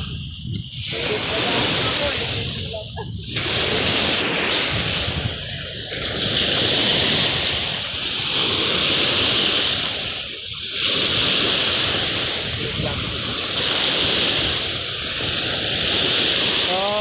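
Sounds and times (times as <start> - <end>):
lake waves breaking on shore: 0.0 - 17.0
wind on microphone: 0.0 - 17.0.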